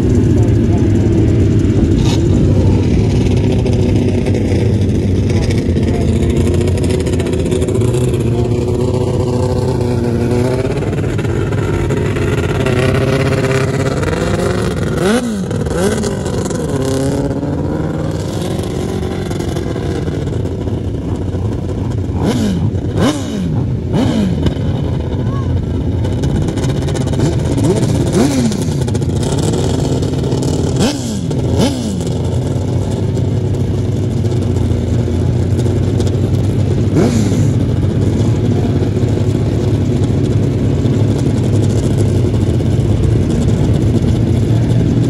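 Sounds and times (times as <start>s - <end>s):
engine throttle blips: 0.0s - 45.0s
motorcycle engines running: 0.0s - 45.0s.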